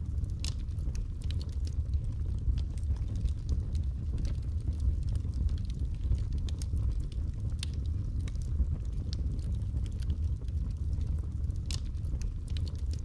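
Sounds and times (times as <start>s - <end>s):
fire rumbling: 0.0s - 13.0s
wood crackling and popping: 0.0s - 13.0s.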